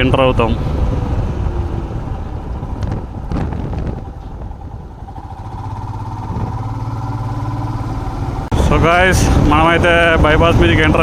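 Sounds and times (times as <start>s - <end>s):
wind on microphone: 0.6s - 7.5s, 8.3s - 11.0s
motorcycle engine running: 0.7s - 10.2s.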